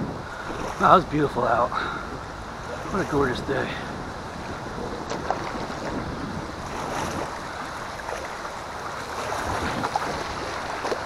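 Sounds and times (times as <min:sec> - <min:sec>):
river water rushing: 0:00.0 - 0:11.0
small water splashes: 0:00.2 - 0:11.0.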